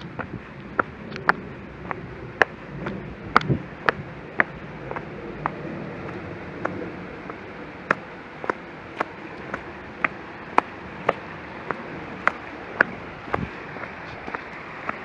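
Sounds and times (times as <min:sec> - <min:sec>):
footsteps on gritty path: 0:00.0 - 0:15.0.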